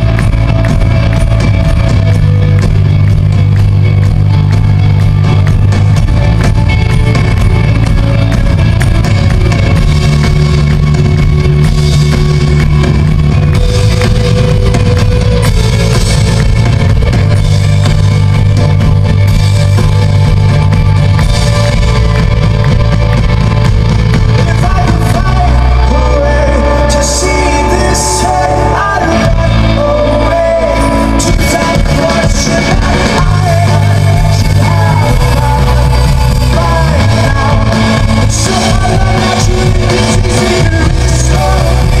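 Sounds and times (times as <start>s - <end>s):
electric guitar: 0.0s - 42.0s
rock band playing live: 0.0s - 42.0s
sustained bass notes: 0.0s - 42.0s.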